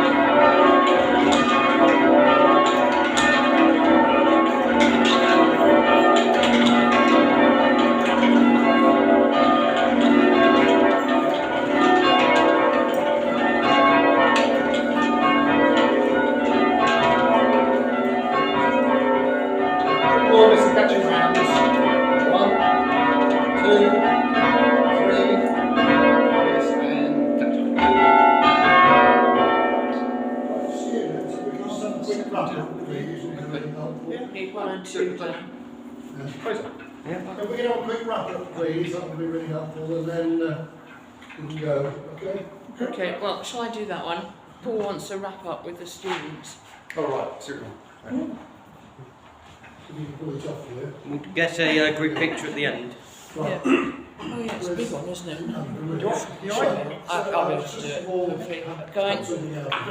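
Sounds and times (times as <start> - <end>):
church bells ringing: 0.0 - 47.6, 50.2 - 59.9.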